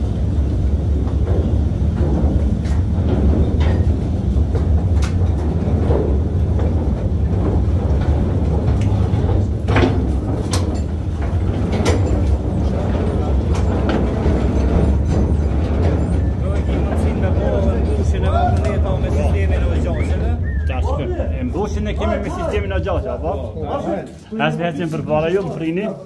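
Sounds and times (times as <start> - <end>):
metal wheel clacks: 0.0 - 20.9
mine cars rumbling on rails: 0.0 - 24.0.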